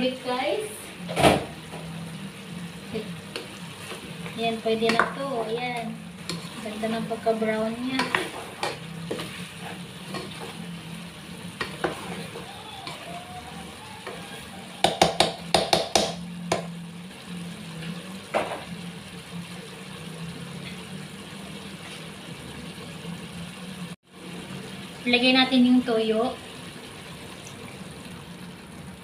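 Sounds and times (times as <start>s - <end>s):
meat sizzling in a pot: 0.0s - 29.0s.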